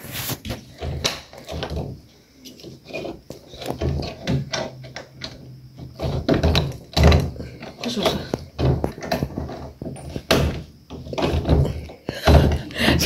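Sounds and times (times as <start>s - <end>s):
wooden furniture knocks and rubs: 0.0s - 13.0s.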